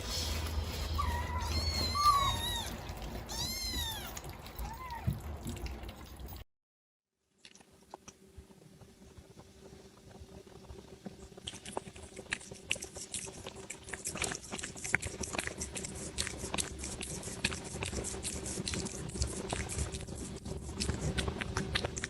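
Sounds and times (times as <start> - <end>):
pet chewing crunchy food: 0.0 - 6.4, 10.0 - 22.0.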